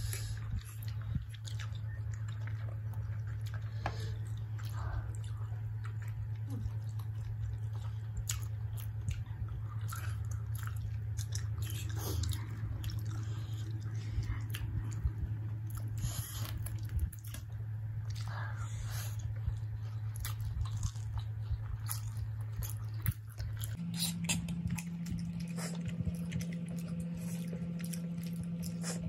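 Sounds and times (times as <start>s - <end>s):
chewing with wet mouth clicks: 0.0s - 29.0s
steady low hum: 0.0s - 29.0s.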